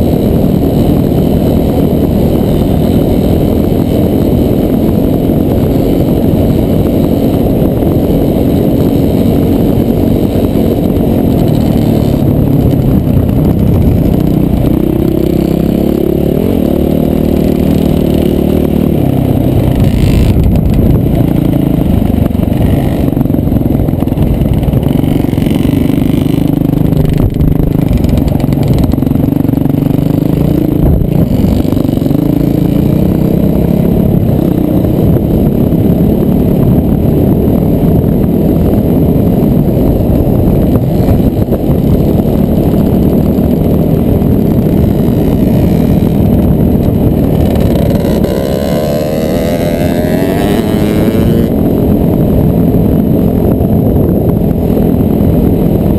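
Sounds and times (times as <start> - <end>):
motorcycle engine revving: 0.0 - 55.9
wind and road noise: 0.0 - 55.9.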